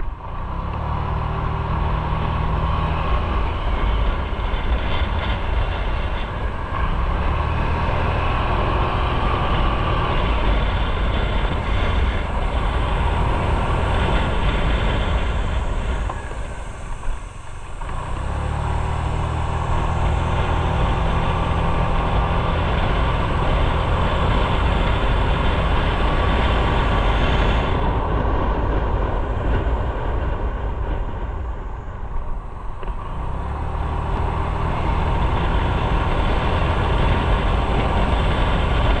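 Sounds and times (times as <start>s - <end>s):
motorcycle engine rumble: 0.0s - 39.0s
rushing wind noise: 0.0s - 39.0s.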